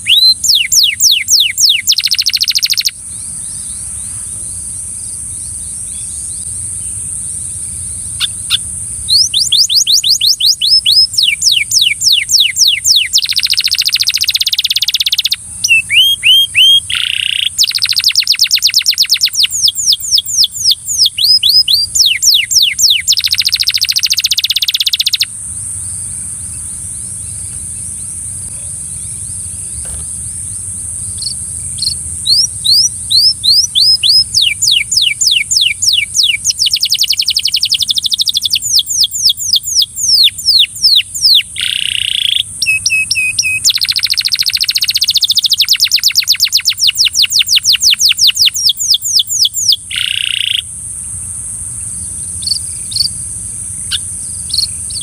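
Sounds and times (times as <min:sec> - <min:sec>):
canary singing trills: 0:00.0 - 0:51.2, 0:51.8 - 0:55.0
steady high hiss: 0:00.0 - 0:55.0.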